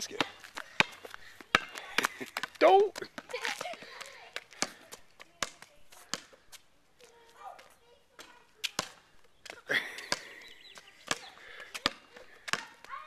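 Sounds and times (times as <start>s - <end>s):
basketball bouncing on concrete: 0.0s - 13.0s.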